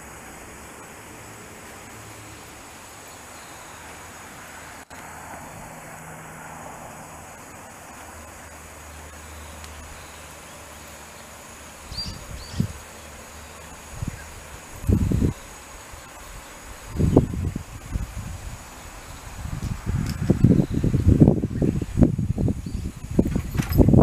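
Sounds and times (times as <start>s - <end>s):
high insect drone: 0.0s - 24.0s
outdoor background hiss: 0.0s - 24.0s.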